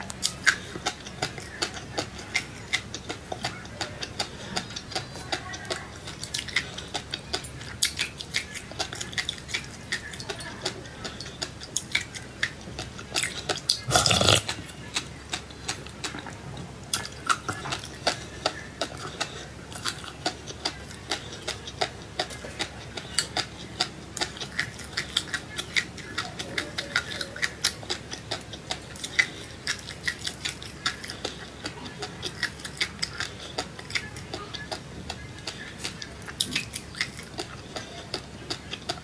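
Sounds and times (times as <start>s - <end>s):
crunchy seeds being chewed: 0.0s - 39.0s.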